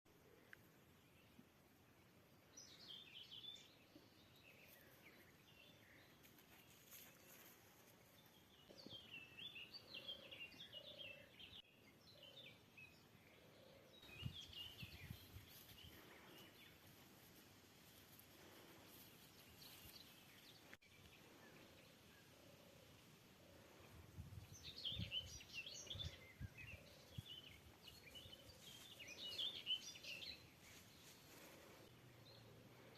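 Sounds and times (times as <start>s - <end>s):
faint songbird chirping: 0.1s - 32.9s.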